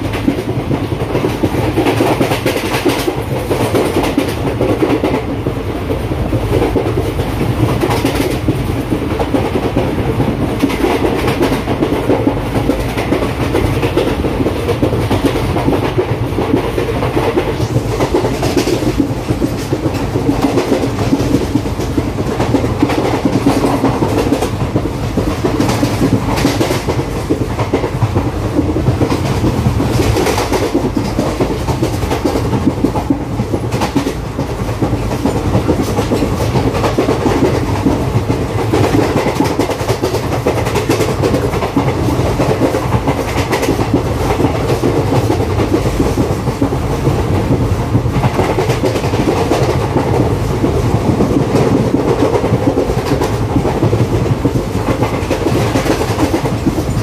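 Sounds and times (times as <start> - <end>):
train wheels clickety-clack: 0.0 - 57.0.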